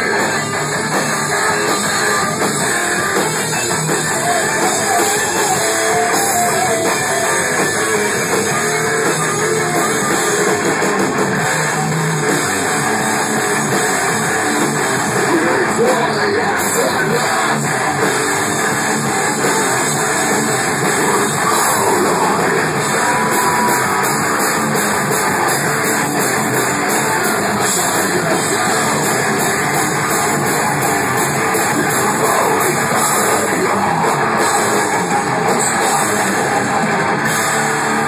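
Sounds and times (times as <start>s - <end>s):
distorted electric guitars: 0.0s - 38.0s
drum kit: 0.0s - 38.0s.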